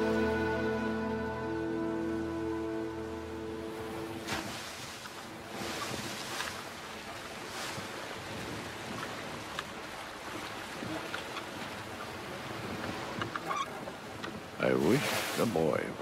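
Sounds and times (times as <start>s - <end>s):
sea waves washing around a boat: 0.0s - 16.0s
wind: 0.0s - 16.0s.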